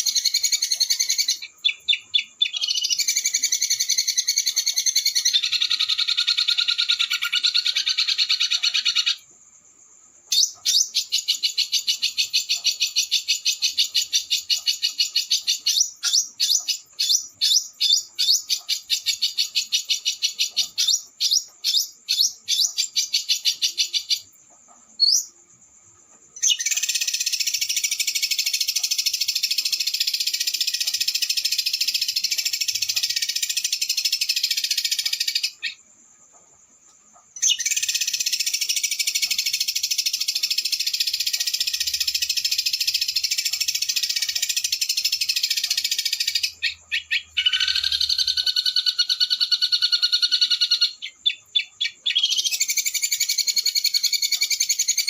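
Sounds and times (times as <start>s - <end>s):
songbird chirps and trill: 0.0s - 55.0s.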